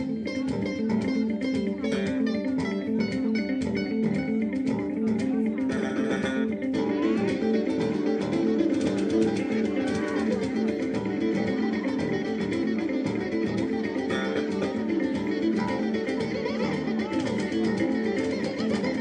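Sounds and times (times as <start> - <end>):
bass guitar: 0.0 - 19.0
guitar: 0.0 - 19.0
hand drum strokes: 2.5 - 19.0.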